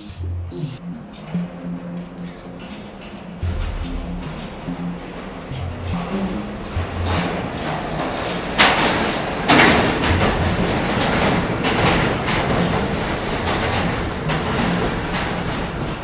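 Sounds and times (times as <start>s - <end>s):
subway train wheels rattling: 0.0s - 16.0s.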